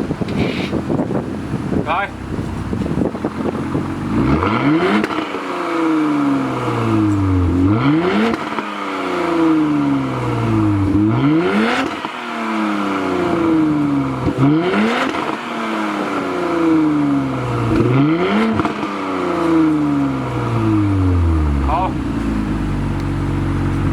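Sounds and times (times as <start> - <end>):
car engine revving: 0.2 - 23.9.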